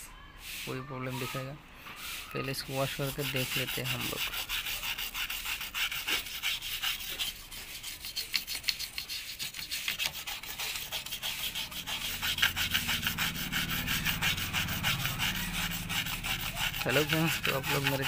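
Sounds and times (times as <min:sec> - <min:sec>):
brush scrubbing circuit board: 0:02.0 - 0:18.0.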